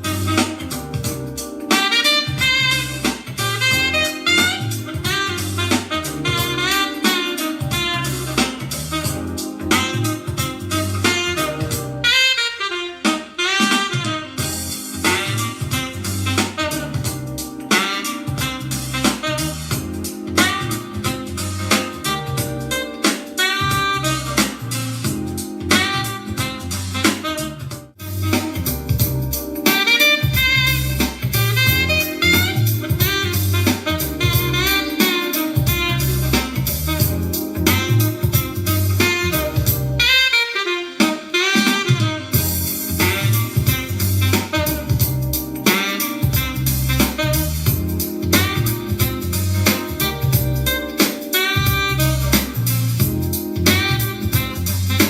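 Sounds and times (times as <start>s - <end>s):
jazzy instrumental music: 0.0s - 55.0s.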